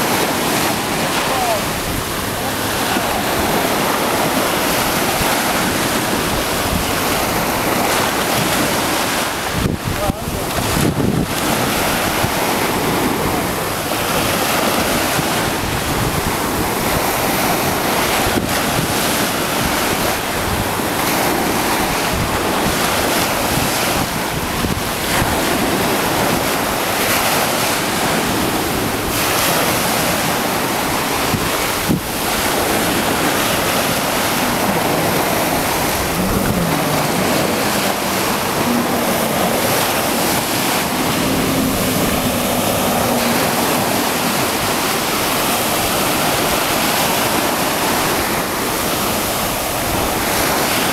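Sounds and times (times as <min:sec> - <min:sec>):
jet ski engine drone: 0:00.0 - 0:50.9
sea surf: 0:00.0 - 0:50.9
wind buffeting microphone: 0:00.0 - 0:50.9.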